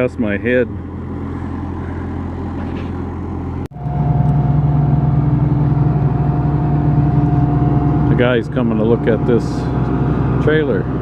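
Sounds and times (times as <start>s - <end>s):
large engine running: 0.0s - 11.0s
loud engine with whine: 0.0s - 11.0s.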